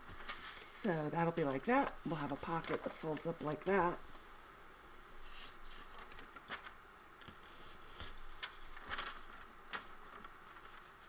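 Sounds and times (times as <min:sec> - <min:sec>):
paper rustling and crinkling: 0:00.0 - 0:04.3, 0:05.1 - 0:11.0.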